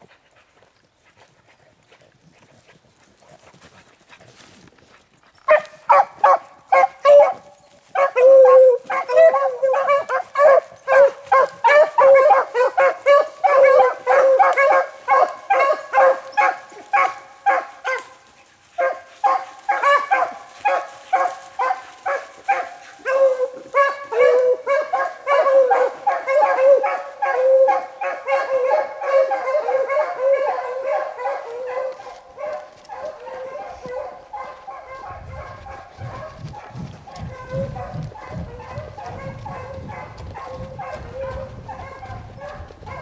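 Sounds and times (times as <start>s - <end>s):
dogs baying: 5.4s - 43.0s.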